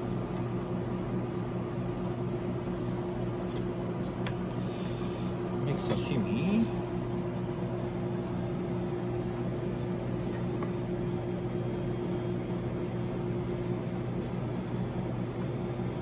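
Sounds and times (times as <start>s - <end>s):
kitchen machinery hum: 0.0s - 16.0s.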